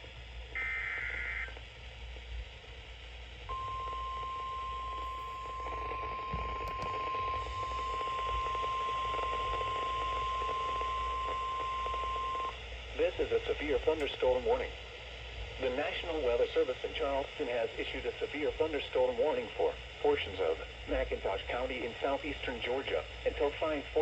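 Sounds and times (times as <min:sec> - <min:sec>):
radio hiss: 0:00.1 - 0:24.0.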